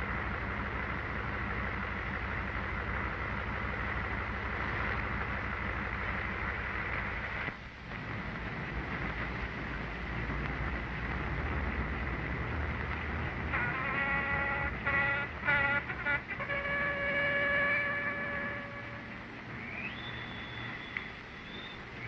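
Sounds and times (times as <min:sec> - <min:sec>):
film soundtrack hiss: 0:00.0 - 0:22.0
steady rumbling noise: 0:00.0 - 0:22.0.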